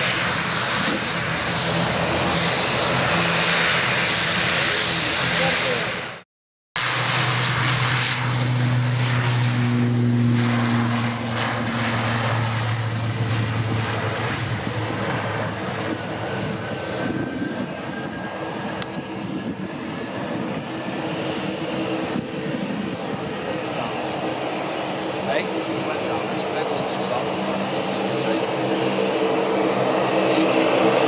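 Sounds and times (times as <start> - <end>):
turboprop engines roaring: 0.0 - 6.2, 6.8 - 31.0.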